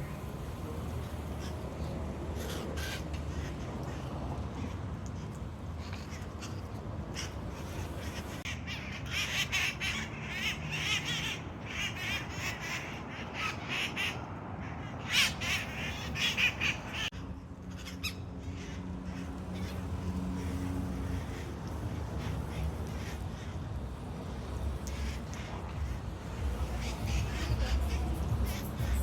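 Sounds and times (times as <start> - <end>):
parakeets screeching: 1.3 - 4.0, 5.8 - 23.6, 24.8 - 29.0.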